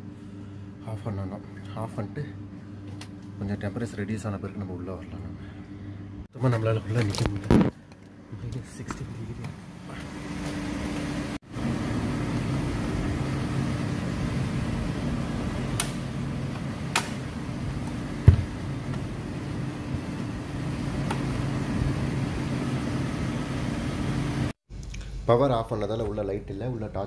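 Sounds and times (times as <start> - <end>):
refrigeration unit humming: 0.0 - 27.0.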